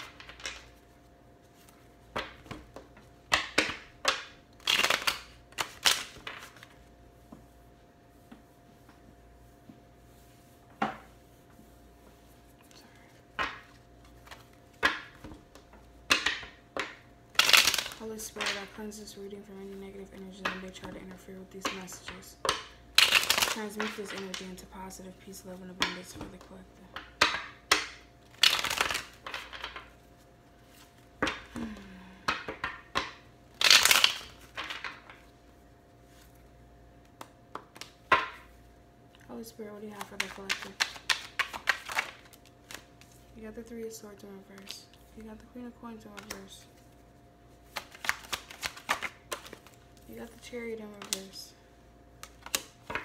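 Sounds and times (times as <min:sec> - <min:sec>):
cards being shuffled: 0:00.0 - 0:06.9, 0:10.9 - 0:35.3, 0:39.8 - 0:43.3, 0:44.3 - 0:51.4, 0:52.2 - 0:53.0
faint steady hum: 0:00.0 - 0:53.0.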